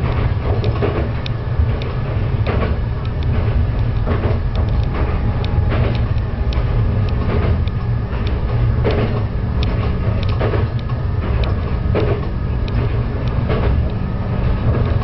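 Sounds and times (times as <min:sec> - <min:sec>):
diesel railcar rumbling: 0:00.0 - 0:15.0
knocks and rattles: 0:00.0 - 0:15.0.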